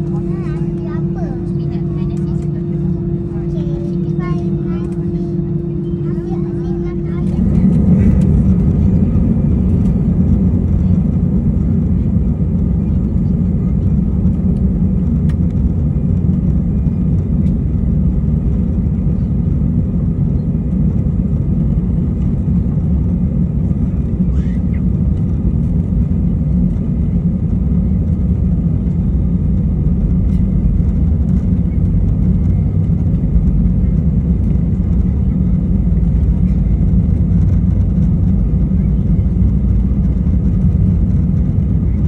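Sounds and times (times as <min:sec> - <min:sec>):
airliner cabin rumble while taxiing: 0:00.0 - 0:42.0.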